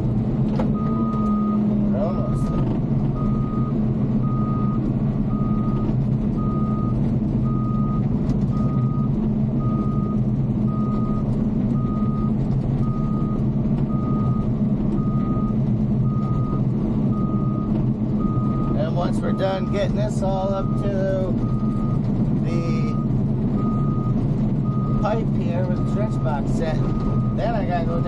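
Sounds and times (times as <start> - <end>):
bulldozer diesel engine running: 0.0 - 28.0
reverse alarm beeping: 3.2 - 8.0, 8.6 - 22.0, 22.6 - 28.0.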